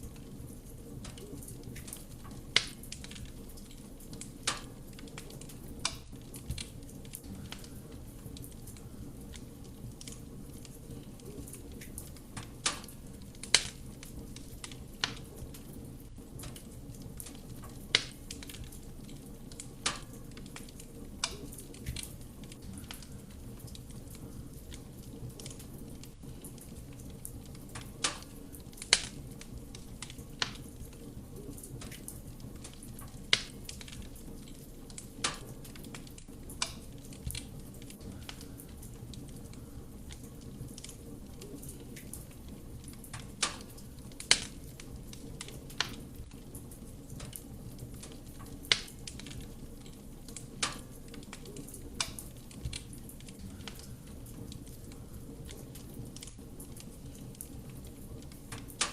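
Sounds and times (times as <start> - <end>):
low rumble of fire: 0.0 - 58.9
wood fire pops and crackles: 0.0 - 58.9.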